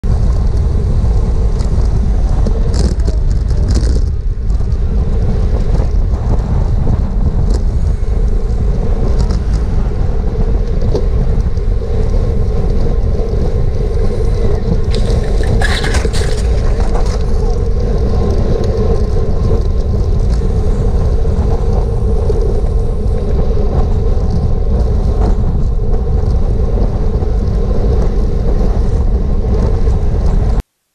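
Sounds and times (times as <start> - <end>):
wind buffeting microphone: 0.0 - 30.6
road and tyre hum: 0.0 - 30.7.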